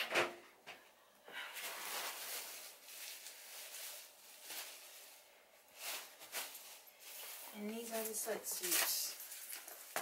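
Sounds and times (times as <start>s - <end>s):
plastic wrap rustling and crinkling: 1.3s - 10.0s.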